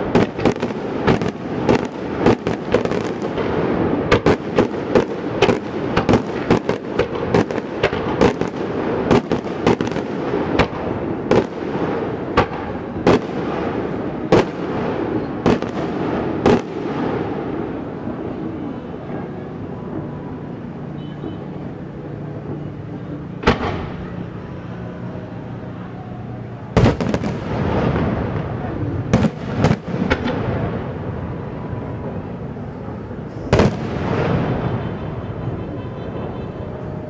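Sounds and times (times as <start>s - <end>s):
firework bangs: 0.0s - 37.0s
fireworks crackling: 0.0s - 37.0s.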